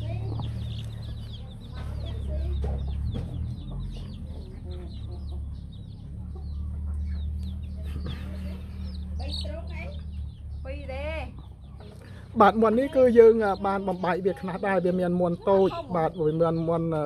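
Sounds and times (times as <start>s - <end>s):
chicks peeping: 0.0s - 17.0s
steady low rumble: 0.0s - 17.0s.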